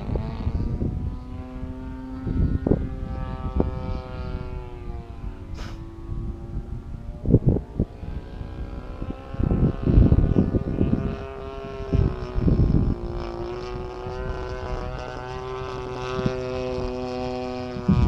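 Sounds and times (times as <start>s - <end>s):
model plane engine in flight: 0.0s - 18.0s
wind buffeting microphone: 0.0s - 18.0s.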